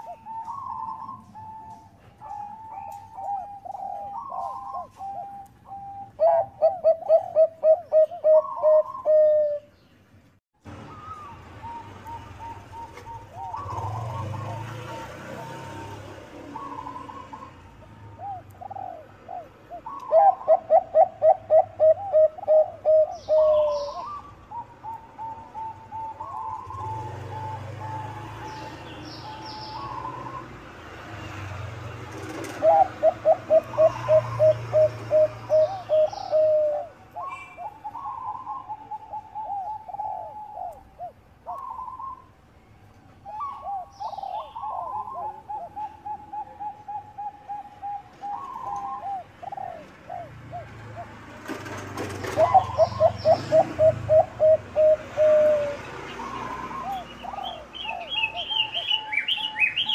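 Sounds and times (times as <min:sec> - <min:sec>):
dove cooing: 0:00.0 - 0:09.7, 0:10.8 - 0:30.5, 0:32.2 - 0:42.4, 0:43.2 - 0:59.9
small birds chirping: 0:00.0 - 0:59.9.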